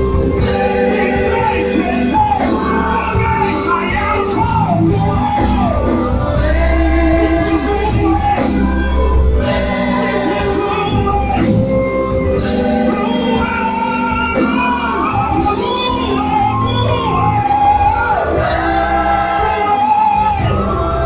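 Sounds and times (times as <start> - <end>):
gospel singing with band: 0.0 - 21.0.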